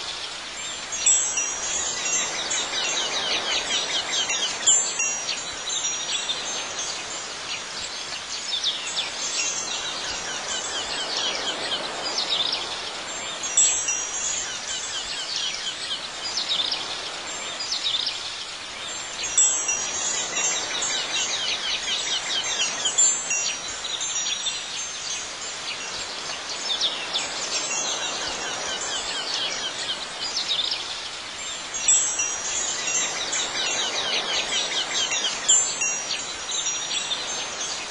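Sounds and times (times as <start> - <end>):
wind chimes ringing: 0.6 - 37.9.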